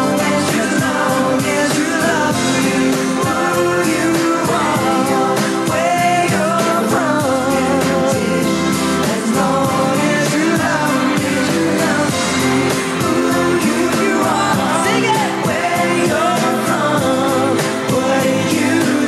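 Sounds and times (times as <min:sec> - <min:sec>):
male vocal group singing: 0:00.0 - 0:19.0
pop backing music with beat: 0:00.0 - 0:19.0.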